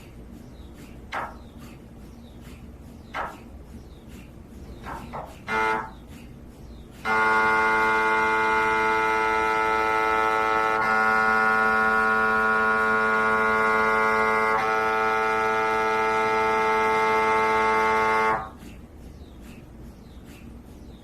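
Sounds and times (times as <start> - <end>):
faint background noise: 0.0 - 21.0.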